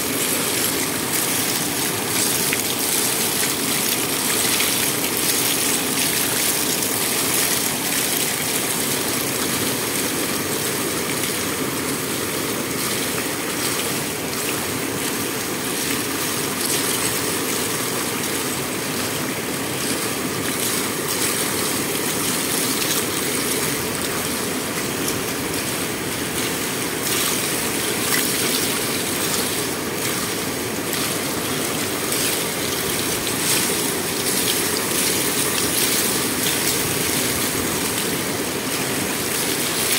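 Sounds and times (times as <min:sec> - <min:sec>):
water rushing over stone ledge: 0:00.0 - 0:39.9.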